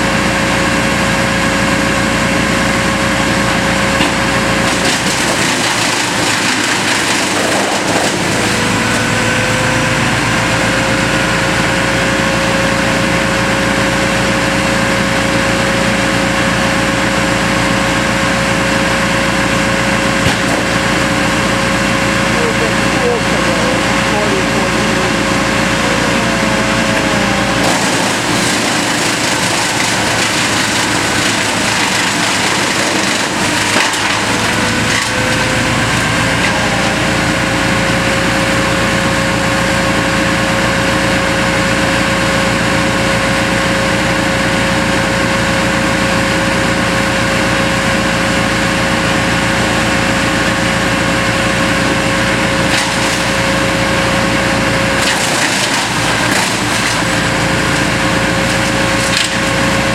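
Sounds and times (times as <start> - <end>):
brush chipper chipping limbs: 0.0 - 59.9.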